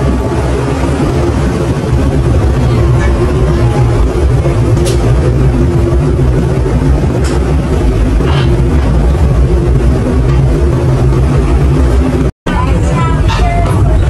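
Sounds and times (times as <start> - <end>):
tram engine droning: 0.0 - 14.0.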